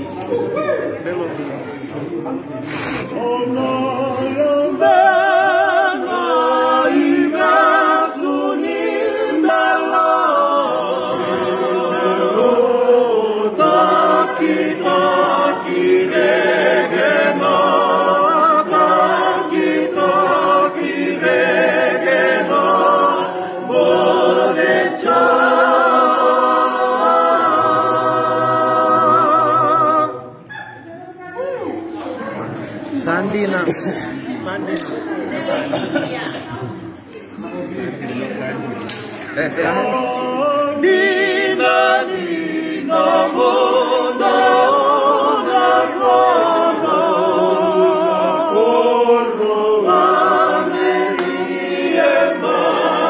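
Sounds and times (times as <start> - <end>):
group singing a cappella: 2.6 - 31.0, 34.8 - 53.0.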